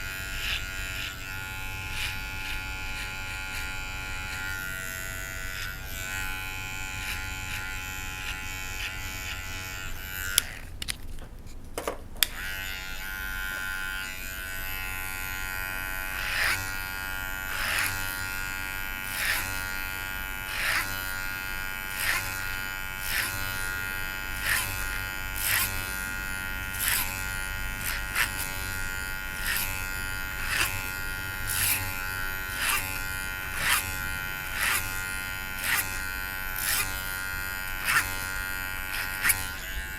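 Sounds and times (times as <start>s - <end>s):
electric hair clippers buzzing: 0.0s - 11.1s, 12.2s - 39.9s
clippers swishing through hair: 0.1s - 11.6s, 12.2s - 39.9s.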